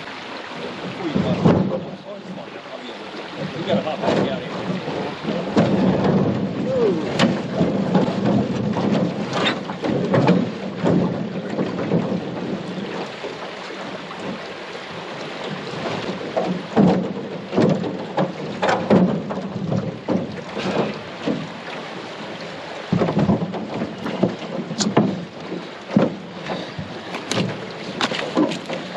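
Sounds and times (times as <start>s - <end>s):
aluminum canoe knocking and scraping: 0.5s - 28.9s.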